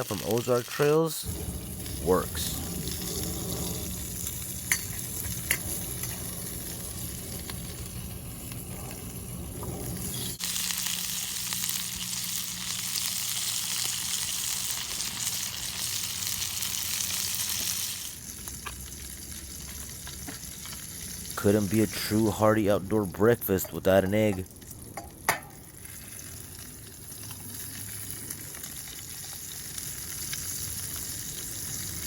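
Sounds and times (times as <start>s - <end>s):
sausages sizzling in frying pan: 0.0s - 22.4s, 23.1s - 32.0s.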